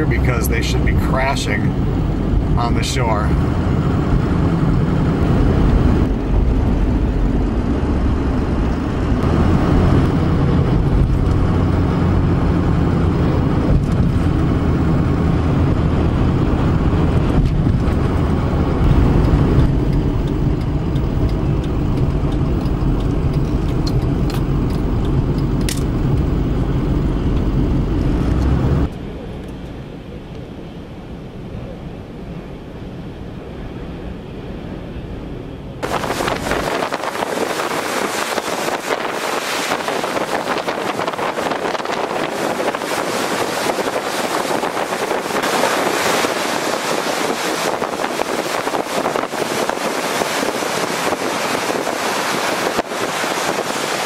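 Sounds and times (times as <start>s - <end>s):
truck cabin road rumble: 0.0s - 54.0s.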